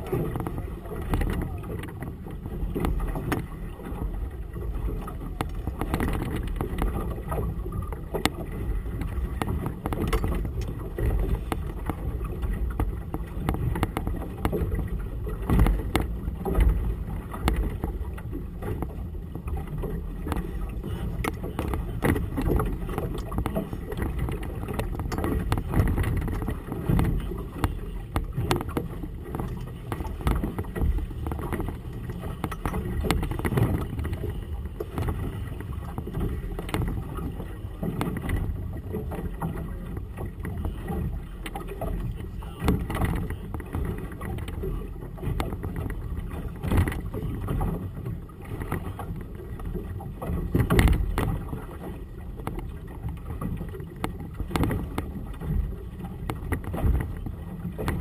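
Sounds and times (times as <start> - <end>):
waves slapping against hull: 0.0 - 58.0
wind rumbling on microphone: 0.0 - 58.0.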